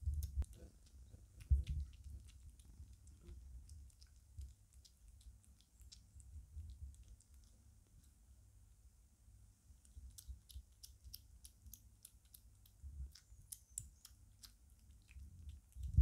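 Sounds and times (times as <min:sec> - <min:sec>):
kitten chewing wet food: 0:00.0 - 0:08.9, 0:09.6 - 0:16.0.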